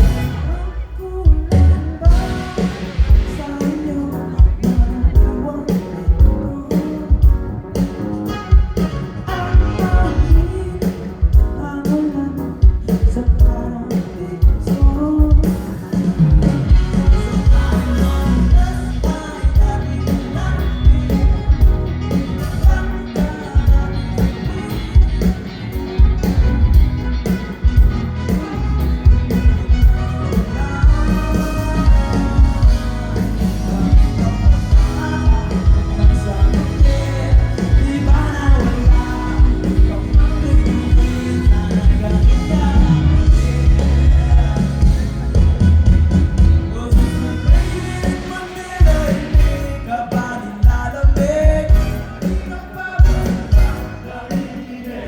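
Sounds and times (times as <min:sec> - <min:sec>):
person singing: 0:00.0 - 0:07.9, 0:08.5 - 0:27.6, 0:28.3 - 0:55.0
pop-rock band playing: 0:00.0 - 0:55.0.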